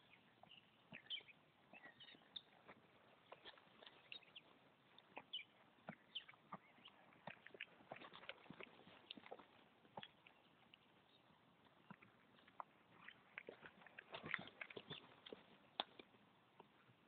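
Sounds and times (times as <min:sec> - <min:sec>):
birds chirping: 0:00.0 - 0:16.8
horse hoofbeats on grass: 0:00.0 - 0:17.0.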